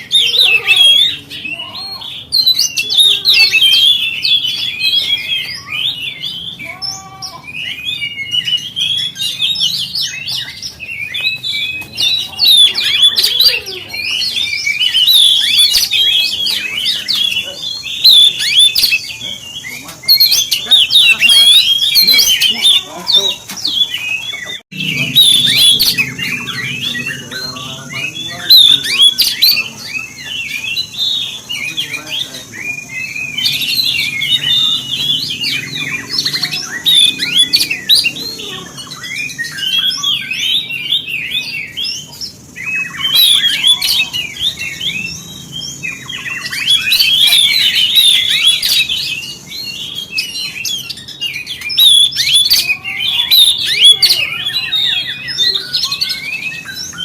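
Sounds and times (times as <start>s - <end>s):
magpie-robin singing high chirps: 0.0s - 57.0s.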